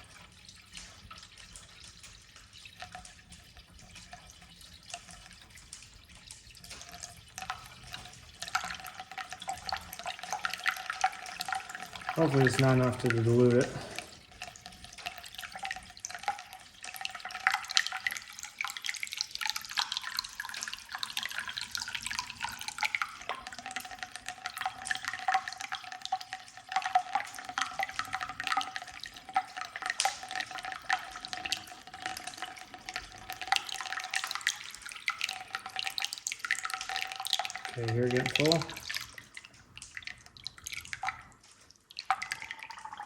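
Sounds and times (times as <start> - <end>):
liquid gurgling and splashing: 0.0 - 43.0.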